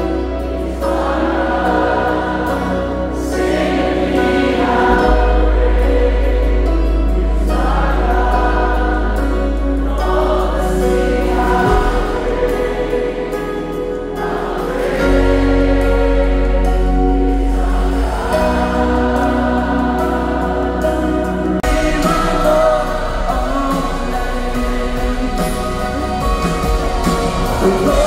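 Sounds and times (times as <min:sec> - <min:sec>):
crowd singing together: 0:00.0 - 0:28.0
worship music over sound system: 0:00.0 - 0:28.0.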